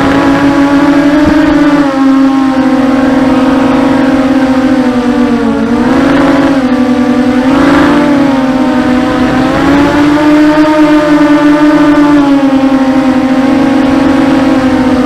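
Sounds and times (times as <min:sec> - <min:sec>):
quadcopter propellers whining: 0:00.0 - 0:15.0.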